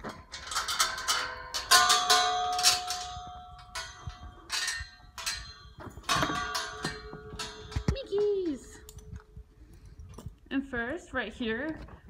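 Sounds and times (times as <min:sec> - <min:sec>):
metal gate and chain clanking: 0:00.0 - 0:10.4.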